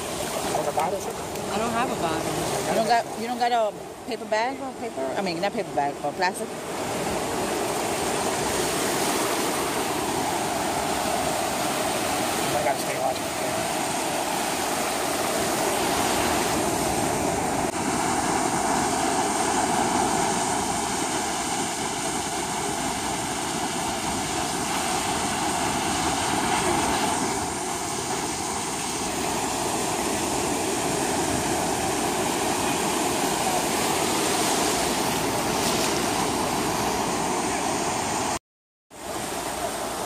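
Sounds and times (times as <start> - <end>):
ocean surf washing onto beach: 0.0 - 38.4, 39.0 - 40.0.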